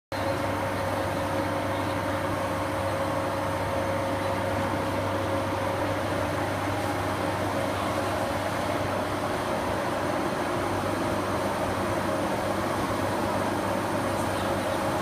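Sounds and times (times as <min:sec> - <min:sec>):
machinery hum: 0:00.2 - 0:15.0.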